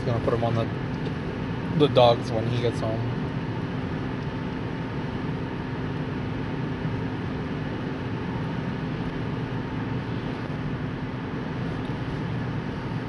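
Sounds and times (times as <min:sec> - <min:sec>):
car road noise and engine hum: 0:00.0 - 0:13.0.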